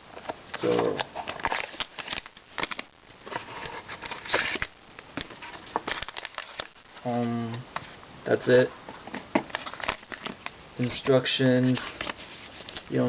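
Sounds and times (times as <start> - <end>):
packaging being opened by hand: 0.1 - 7.0, 9.0 - 13.0.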